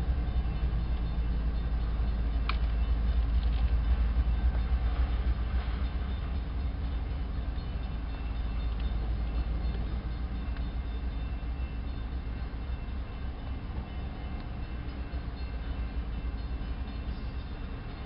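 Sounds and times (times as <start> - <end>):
freight train rumbling by: 0.0 - 18.0.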